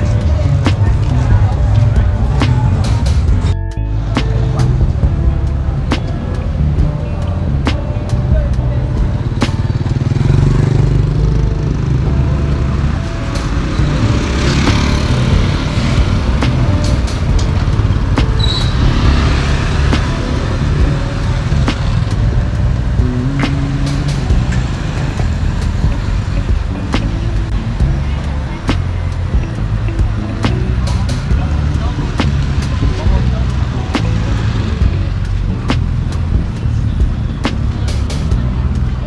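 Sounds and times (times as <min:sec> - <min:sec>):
low vehicle rumble: 0:00.0 - 0:39.0.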